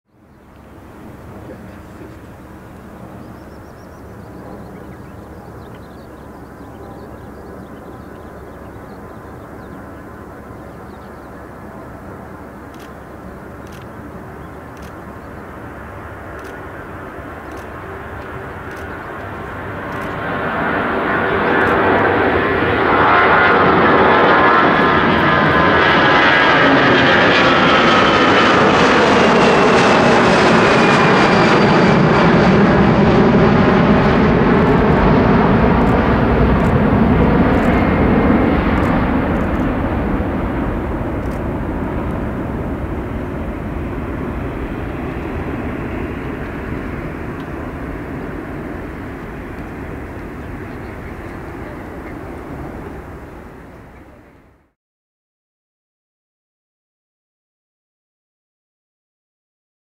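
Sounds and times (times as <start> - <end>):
jet fan whine: 0.1 - 54.4
jet airliner taking off roar: 0.1 - 54.7.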